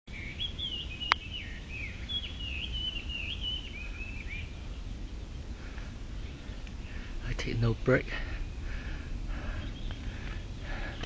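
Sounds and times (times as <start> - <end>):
songbird warbling: 0.1 - 11.0
low steady rumble: 0.2 - 11.0.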